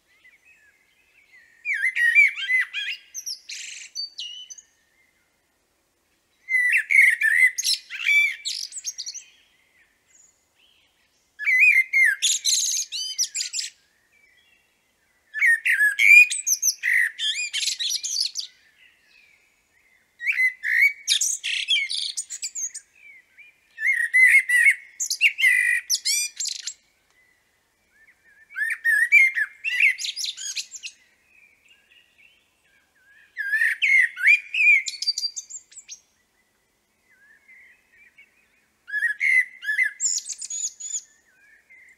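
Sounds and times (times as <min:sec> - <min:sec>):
blackbird singing: 0:00.0 - 0:05.4, 0:06.3 - 0:41.9.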